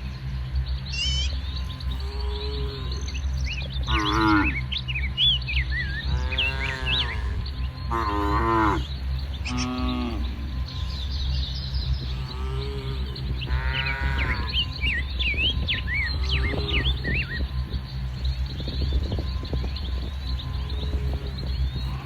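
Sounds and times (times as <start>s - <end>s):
birds chirping: 0.0s - 22.0s
steady low hum: 0.0s - 22.0s
cattle mooing: 1.6s - 4.7s, 5.8s - 18.1s, 19.3s - 22.0s.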